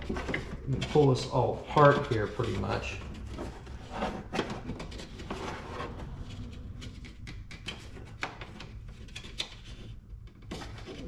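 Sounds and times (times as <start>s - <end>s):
plastic liner rubbing: 0.0s - 11.0s.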